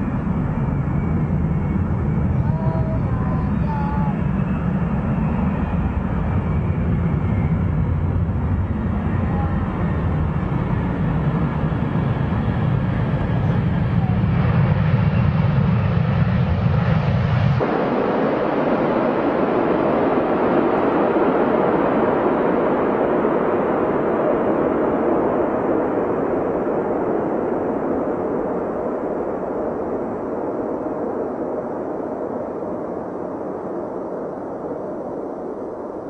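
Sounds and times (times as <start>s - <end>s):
jet airliner rumble: 0.0s - 36.0s
jet passing overhead: 0.0s - 36.0s.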